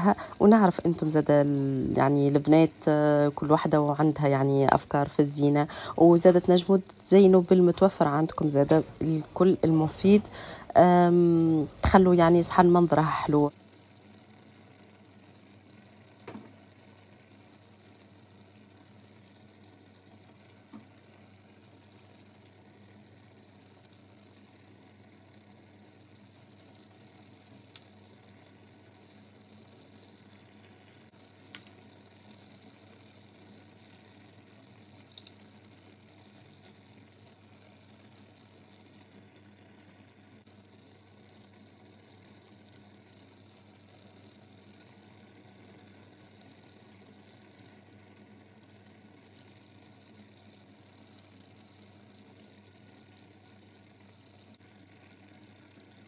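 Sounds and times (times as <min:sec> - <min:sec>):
paella bubbling in a pan: 0:00.0 - 0:56.0.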